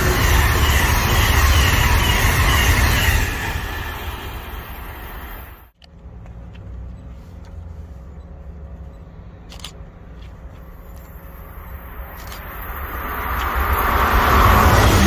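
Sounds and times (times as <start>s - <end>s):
passing train rumble: 0.0s - 15.0s.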